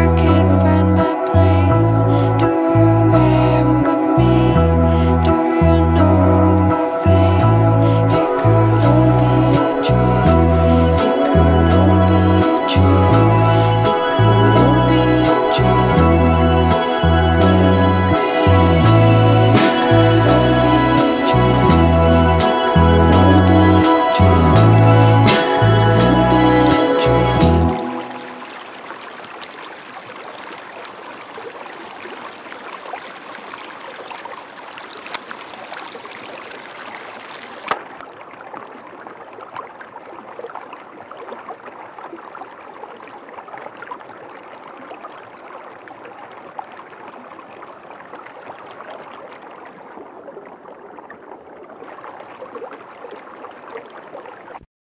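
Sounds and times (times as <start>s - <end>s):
trickling gurgling water: 0.0s - 54.7s.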